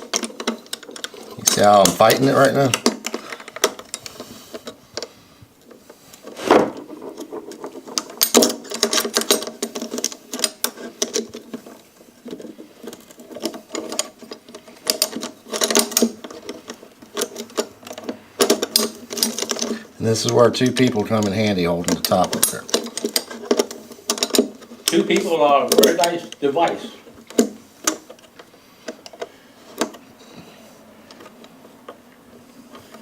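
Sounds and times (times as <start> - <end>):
metal parts clicking and rattling: 0.0 - 33.0.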